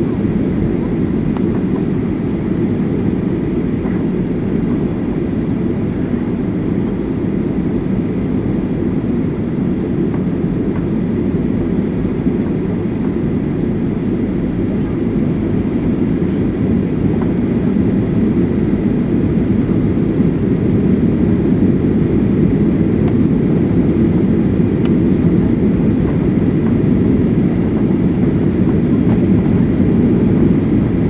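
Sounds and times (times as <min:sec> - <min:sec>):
jet engine roar in cabin: 0:00.0 - 0:31.0.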